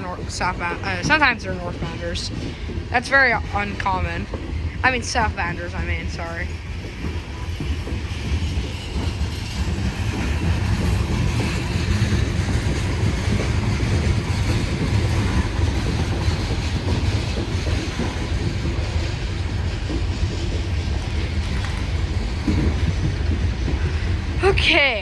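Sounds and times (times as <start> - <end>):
train cars rumbling on rails: 0.0 - 25.0.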